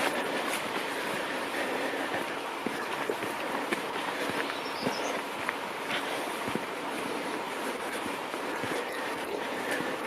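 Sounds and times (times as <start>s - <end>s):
footsteps on gravel: 0.0s - 10.0s
rushing background noise: 0.0s - 10.0s.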